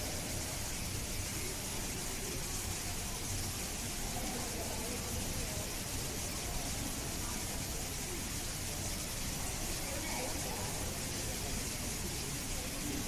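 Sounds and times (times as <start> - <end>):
background chatter of voices: 0.0 - 13.0
steady hiss: 0.0 - 13.0.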